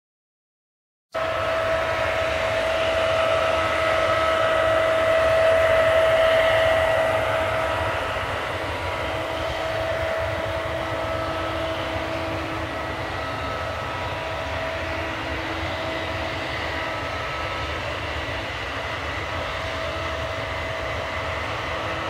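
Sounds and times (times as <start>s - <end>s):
combine harvester droning: 1.2s - 22.0s.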